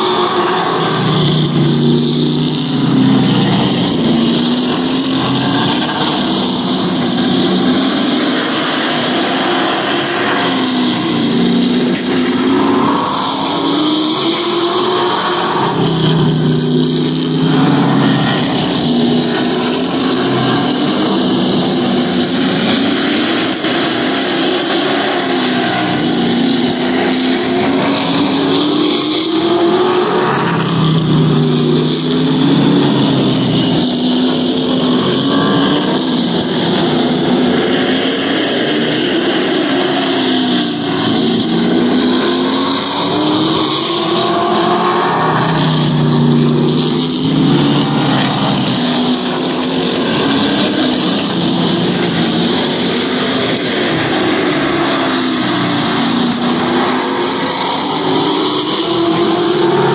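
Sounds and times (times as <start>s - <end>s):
racing truck engines: 0.0s - 59.9s.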